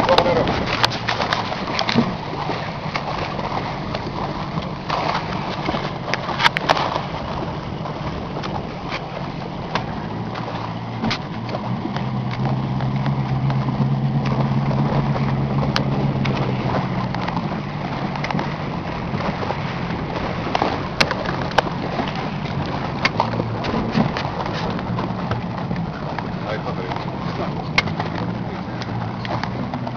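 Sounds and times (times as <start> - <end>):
engine running: 0.0 - 29.9.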